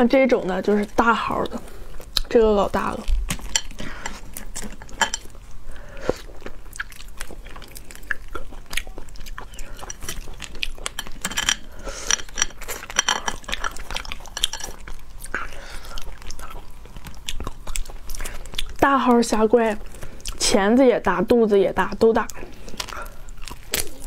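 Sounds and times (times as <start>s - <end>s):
chewing: 0.6s - 20.4s, 22.2s - 24.0s.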